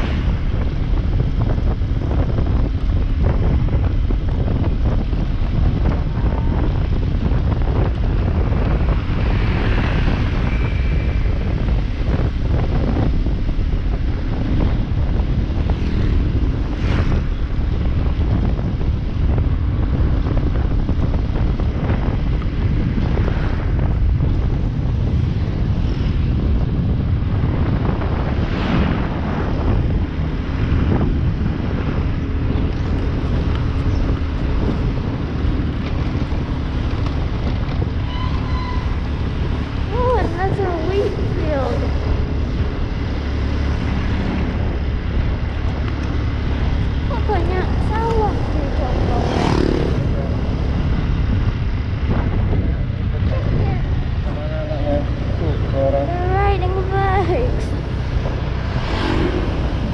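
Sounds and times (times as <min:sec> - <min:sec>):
faint motorcycle engine hum: 0:00.0 - 0:38.1, 0:38.8 - 0:59.9
wind buffeting microphone: 0:00.0 - 0:59.9.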